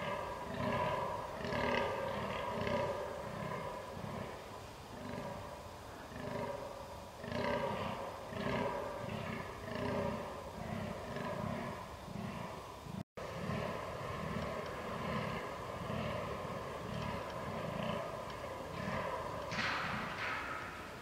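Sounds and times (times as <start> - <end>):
deer groaning: 0.0 - 21.0.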